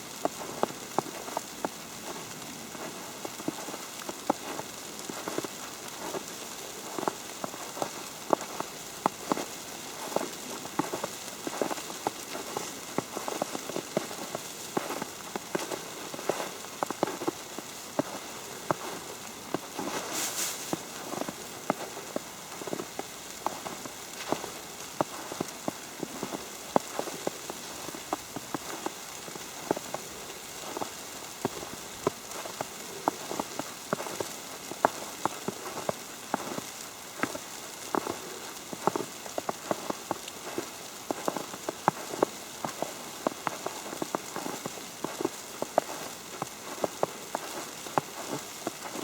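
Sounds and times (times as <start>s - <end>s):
snow ticking on umbrella: 0.0s - 49.0s.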